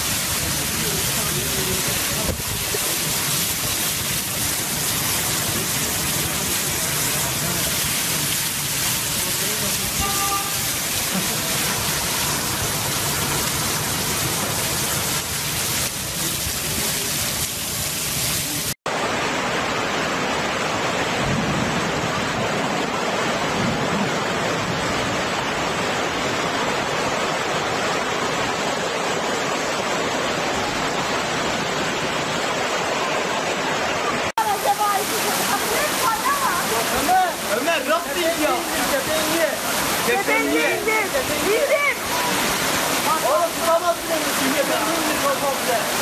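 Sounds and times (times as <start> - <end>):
floodwater rushing: 0.0 - 46.0
heavy rain on street: 0.0 - 46.0.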